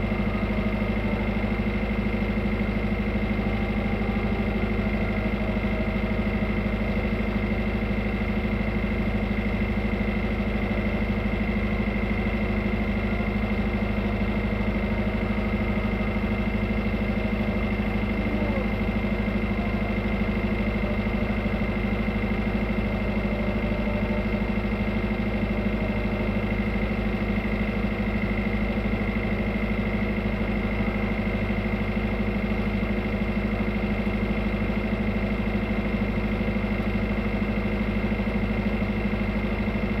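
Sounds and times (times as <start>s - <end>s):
diesel engine running steadily: 0.0s - 40.0s.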